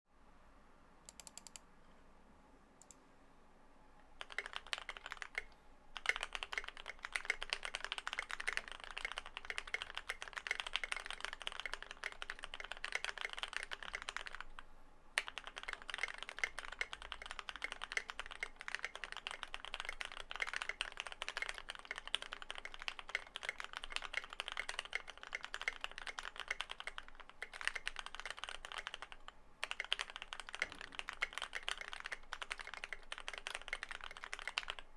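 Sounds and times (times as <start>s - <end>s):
fast mechanical keyboard typing: 1.1s - 1.6s, 4.1s - 14.6s, 15.2s - 34.9s.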